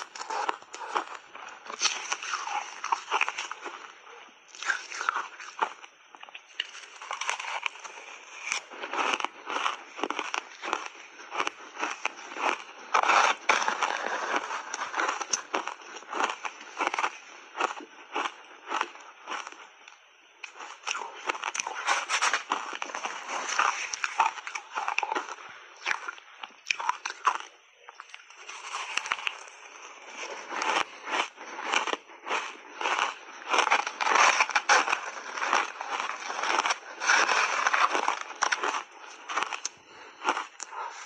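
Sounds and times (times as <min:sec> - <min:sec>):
shaved ice crunching when chewed: 0:00.0 - 0:41.0.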